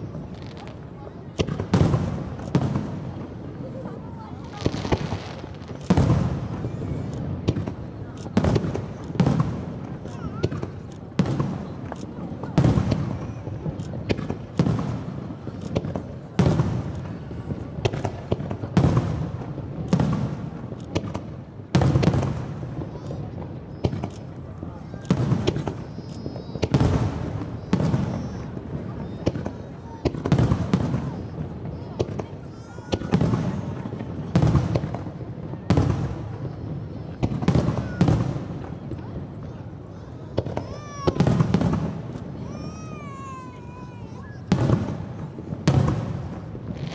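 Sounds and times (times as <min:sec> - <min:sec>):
fireworks booming: 0:00.0 - 0:46.9
fireworks pops and crackles: 0:00.0 - 0:46.9.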